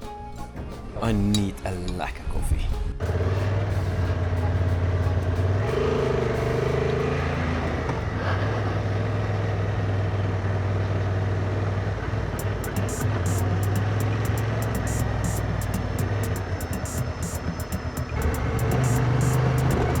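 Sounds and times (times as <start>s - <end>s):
motorcycle engine running: 3.0s - 20.0s
road noise: 3.0s - 20.0s.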